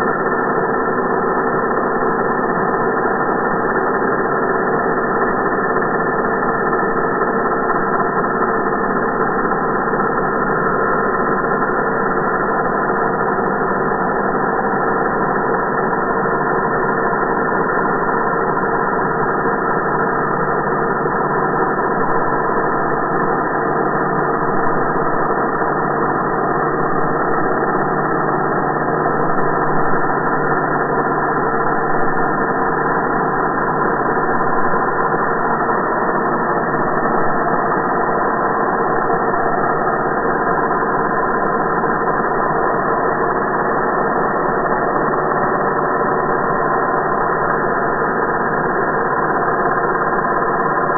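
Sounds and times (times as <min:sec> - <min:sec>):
slowed grinder deep drone: 0:00.0 - 0:50.9.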